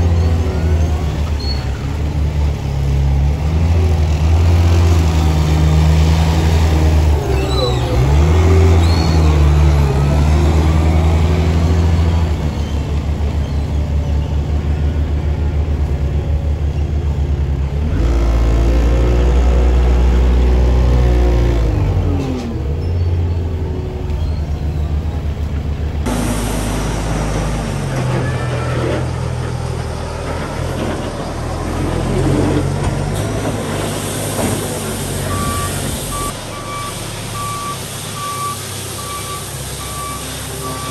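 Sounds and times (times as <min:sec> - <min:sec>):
telehandler engine running: 0:00.0 - 0:40.9
wheel loader engine running: 0:00.0 - 0:40.9.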